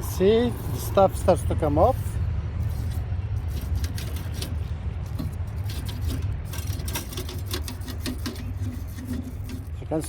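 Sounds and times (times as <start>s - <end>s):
scraping on metal heating elements: 0.0s - 10.0s.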